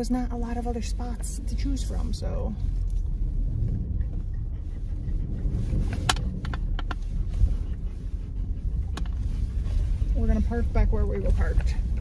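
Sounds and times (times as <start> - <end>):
car driving rumble from inside: 0.0 - 12.0.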